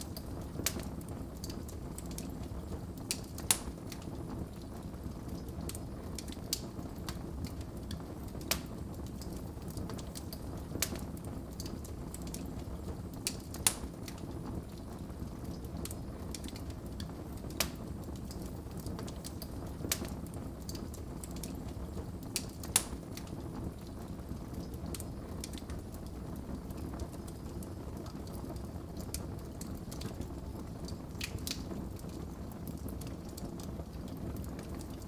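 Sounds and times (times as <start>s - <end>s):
burning logs crackling and popping: 0.0s - 35.0s
low rumble of flames: 0.0s - 35.0s.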